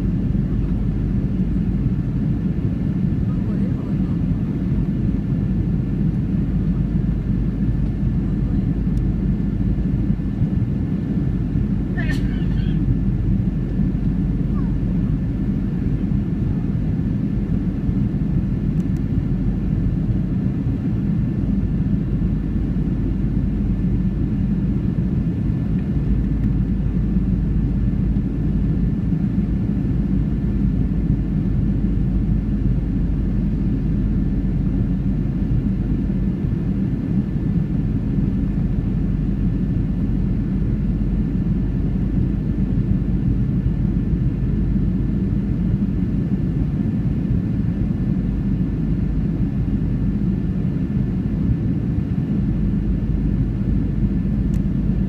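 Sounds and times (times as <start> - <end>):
aircraft cabin engine rumble: 0.0 - 55.0
faint steady whine: 0.0 - 55.0.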